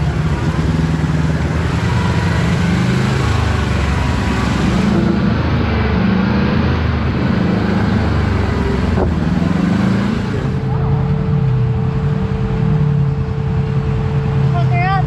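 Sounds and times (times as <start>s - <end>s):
steady high whine: 0.0s - 15.0s
vehicle engine running: 0.0s - 15.0s.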